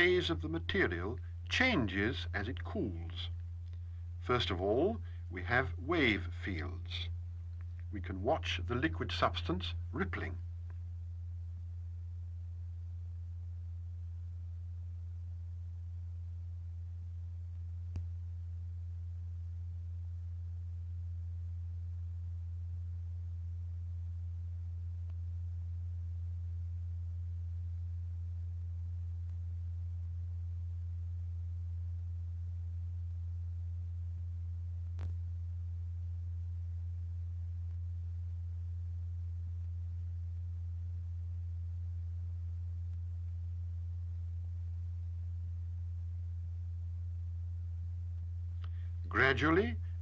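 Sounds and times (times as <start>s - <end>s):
steady low pure tone: 0.0s - 50.0s.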